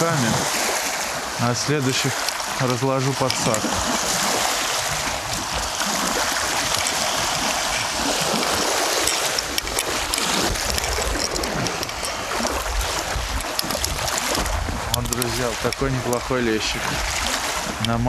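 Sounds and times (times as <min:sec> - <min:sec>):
strong wind: 0:00.0 - 0:18.0
water noise: 0:00.0 - 0:18.0
wind gusts rumbling on microphone: 0:00.0 - 0:18.0.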